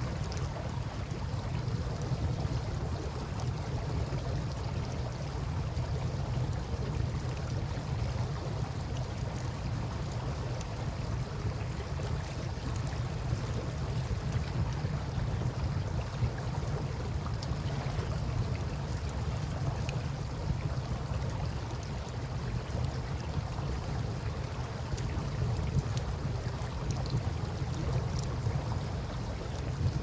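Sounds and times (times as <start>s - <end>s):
river water flowing: 0.0s - 30.0s
campfire crackling: 0.1s - 30.0s.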